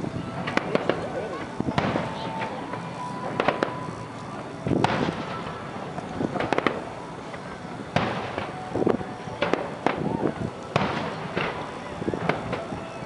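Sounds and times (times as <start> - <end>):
firework cracks: 0.0 - 13.0.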